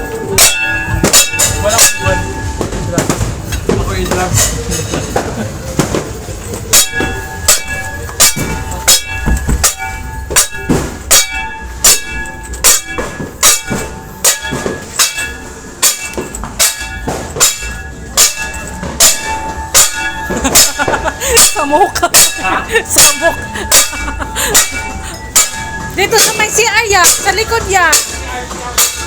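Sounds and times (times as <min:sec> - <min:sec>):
metal being banged: 0:00.0 - 0:29.0.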